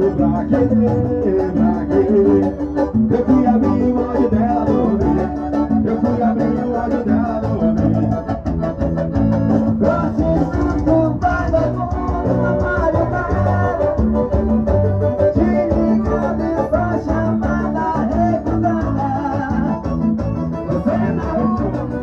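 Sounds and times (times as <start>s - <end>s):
person singing: 0.0s - 8.2s, 9.7s - 14.5s, 15.1s - 20.0s, 20.6s - 22.0s
dance music with guitar and bass: 0.0s - 22.0s.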